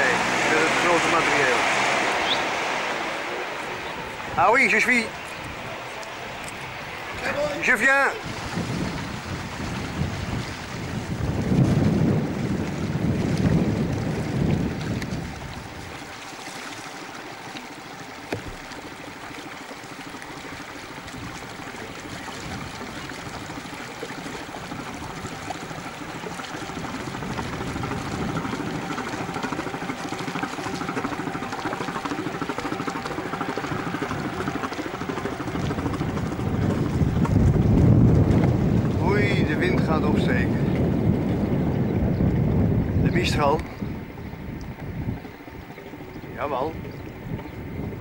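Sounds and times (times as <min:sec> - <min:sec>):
outboard engine running: 0:00.0 - 0:48.0
water wash: 0:00.0 - 0:48.0.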